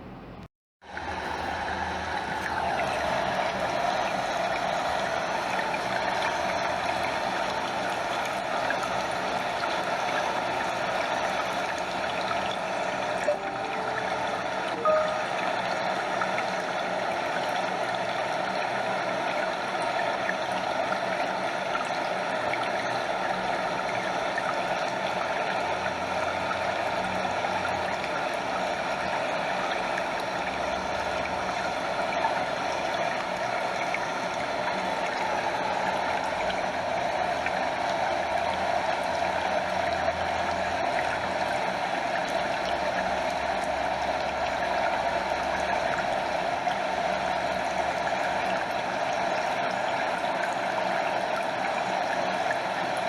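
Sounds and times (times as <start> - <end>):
stream water over small waterfall: 0.9 - 53.0.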